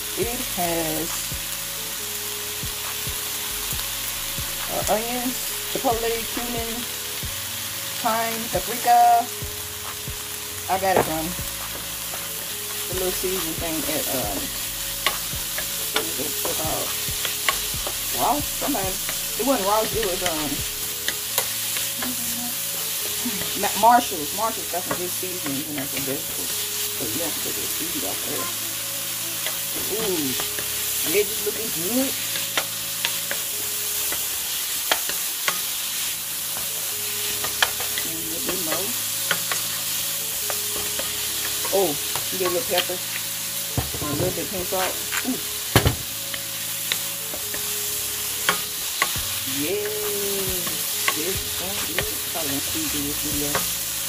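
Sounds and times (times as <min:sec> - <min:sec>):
vegetables sizzling in a skillet: 0:00.0 - 0:54.0.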